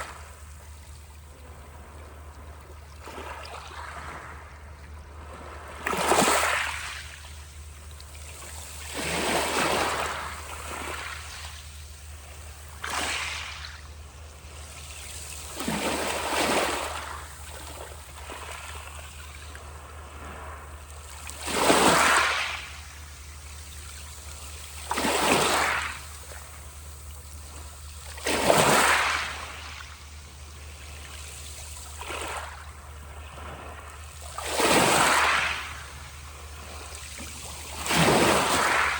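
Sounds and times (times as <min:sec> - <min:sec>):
sea waves breaking: 0:00.0 - 0:38.9.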